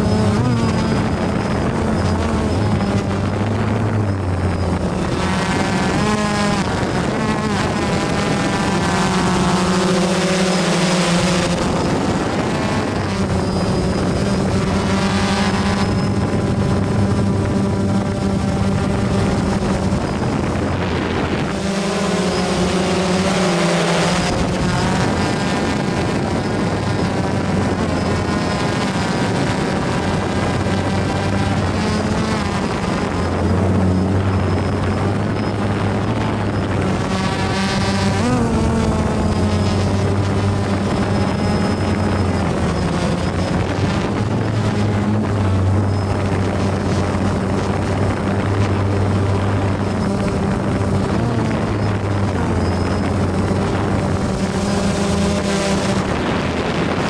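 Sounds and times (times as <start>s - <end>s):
drone propeller buzz: 0.0s - 57.0s.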